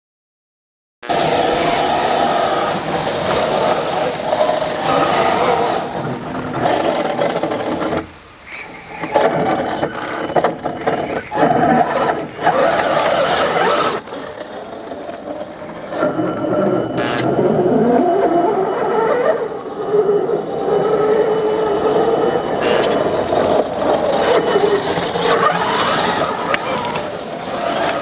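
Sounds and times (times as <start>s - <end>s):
electric motor whining: 1.0s - 8.0s, 9.2s - 28.0s
tyres scraping on dirt: 1.0s - 28.0s.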